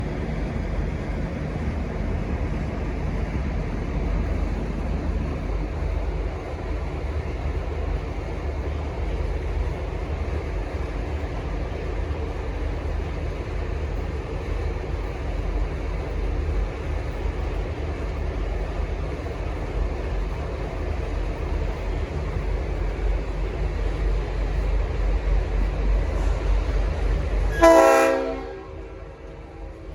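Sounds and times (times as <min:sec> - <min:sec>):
diesel locomotive engine rumble: 0:00.0 - 0:29.9.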